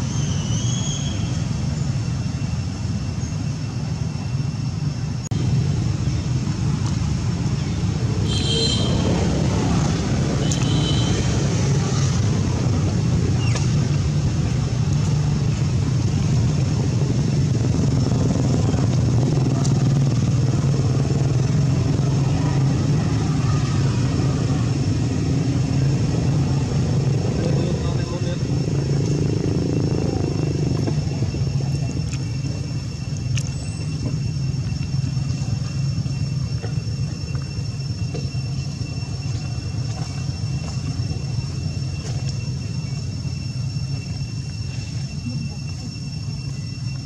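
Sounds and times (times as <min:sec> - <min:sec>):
low engine drone: 0:00.0 - 0:47.0.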